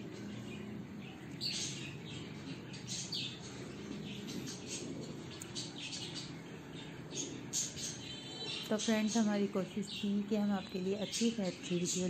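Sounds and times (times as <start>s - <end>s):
low steady background noise: 0.0s - 12.0s
small birds chirping: 0.0s - 12.0s.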